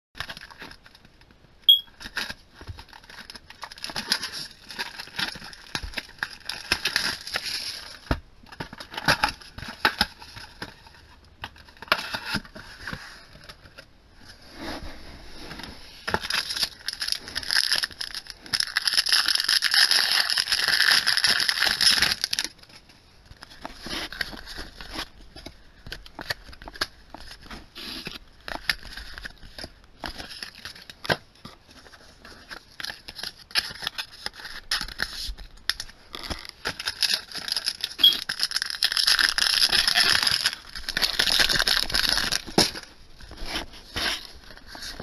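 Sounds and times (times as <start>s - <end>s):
foil wrappers crinkling and tearing: 0.2s - 1.2s, 2.0s - 13.0s, 16.1s - 45.0s.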